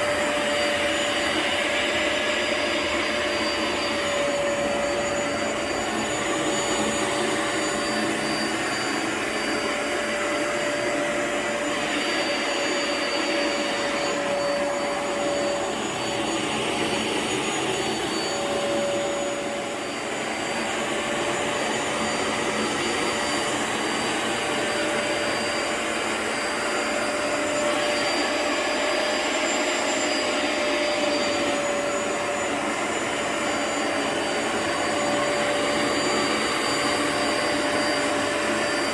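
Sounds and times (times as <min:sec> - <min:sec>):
vacuum cleaner running on rug: 0:00.0 - 0:38.9.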